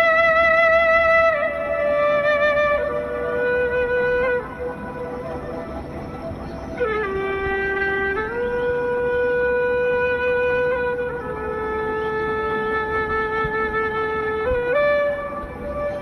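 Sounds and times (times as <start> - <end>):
wind instrument playing long notes: 0.0 - 16.0.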